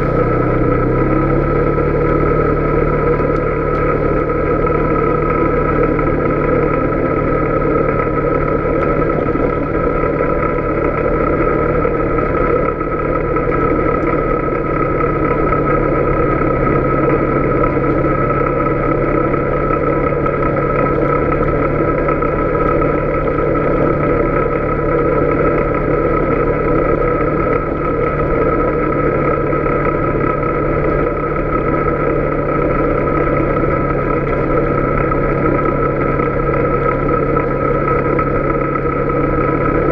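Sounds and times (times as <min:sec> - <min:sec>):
atv engine running: 0:00.0 - 0:39.9
road noise: 0:00.0 - 0:39.9
steady whine: 0:00.0 - 0:39.9.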